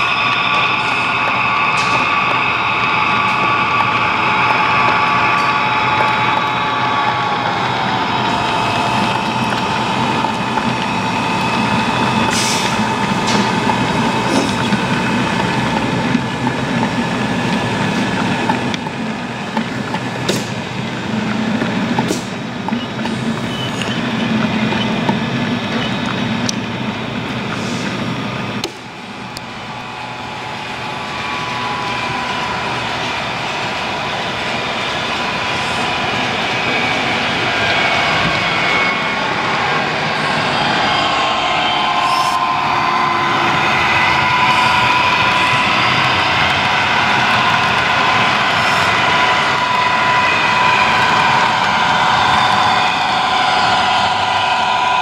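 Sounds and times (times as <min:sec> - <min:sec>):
diesel locomotive engine sound: 0:00.0 - 0:55.0
model train wagons rumbling: 0:00.0 - 0:55.0.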